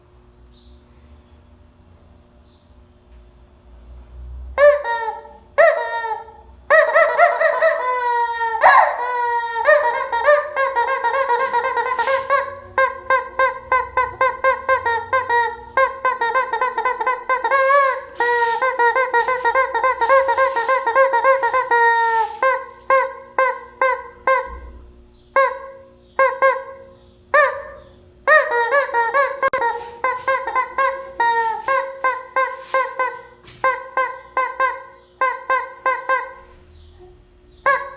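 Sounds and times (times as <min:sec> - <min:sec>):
rubber chicken toy honking: 0:04.6 - 0:24.8, 0:25.4 - 0:37.9.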